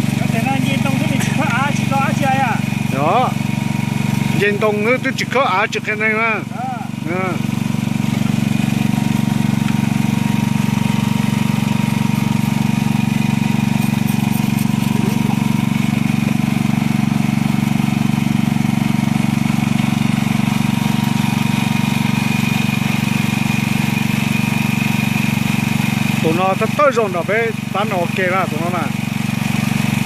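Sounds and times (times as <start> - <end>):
small engine running steadily: 0.0 - 30.0.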